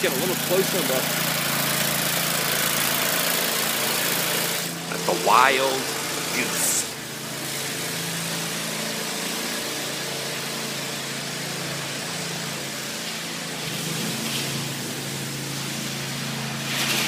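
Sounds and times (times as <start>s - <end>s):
pressure washer engine hum: 0.0s - 17.0s.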